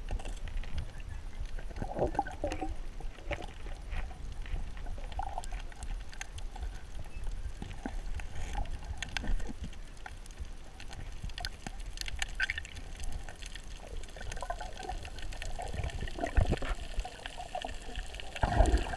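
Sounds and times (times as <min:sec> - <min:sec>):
crackling clicks: 0:00.0 - 0:18.9
muffled underwater water rush: 0:00.0 - 0:18.9
water swishing and gurgling: 0:00.0 - 0:18.9.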